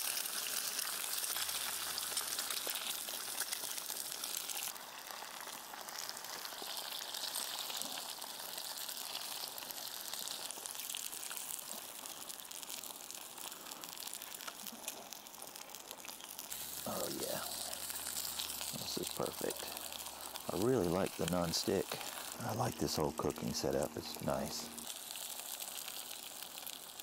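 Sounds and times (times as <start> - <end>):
eggs and sausage sizzling: 0.0 - 27.0.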